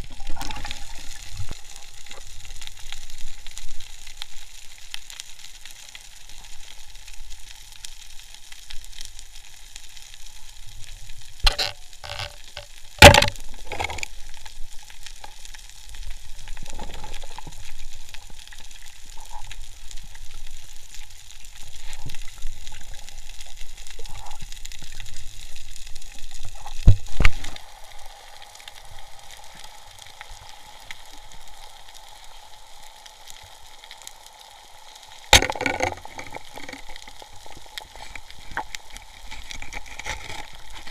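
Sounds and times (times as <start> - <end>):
underwater hiss with crackling: 0.0 - 40.9.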